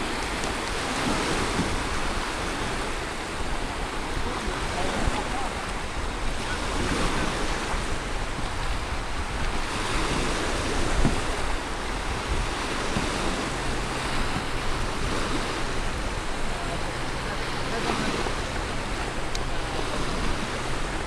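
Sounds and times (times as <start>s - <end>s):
small waves breaking on shore: 0.0s - 21.0s
wind buffeting microphone: 0.0s - 21.0s.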